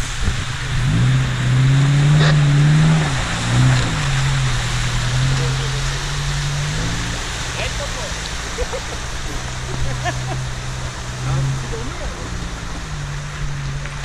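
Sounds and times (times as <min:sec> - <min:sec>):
engine working under load: 0:00.0 - 0:14.0
rushing water: 0:00.0 - 0:14.0.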